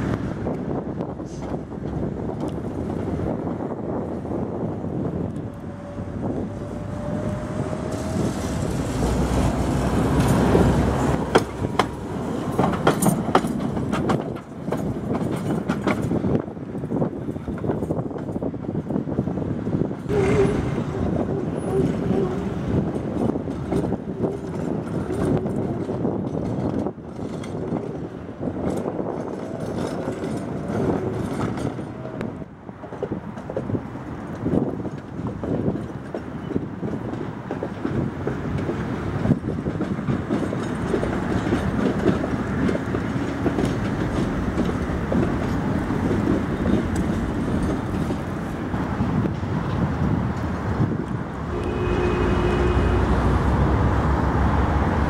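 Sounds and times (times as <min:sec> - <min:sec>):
tram rumbling past: 0:00.0 - 0:55.0
wheels clacking over rail joints: 0:05.2 - 0:53.5.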